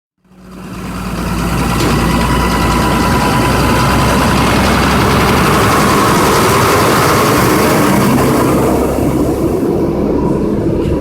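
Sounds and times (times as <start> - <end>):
truck engine idling: 0.2 - 11.0.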